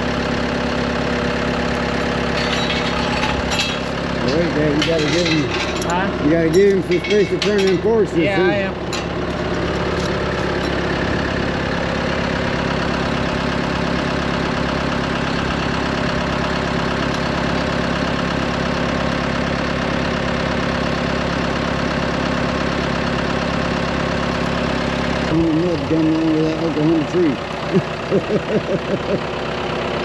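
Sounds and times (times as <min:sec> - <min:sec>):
forklift engine running steadily: 0:00.0 - 0:30.0.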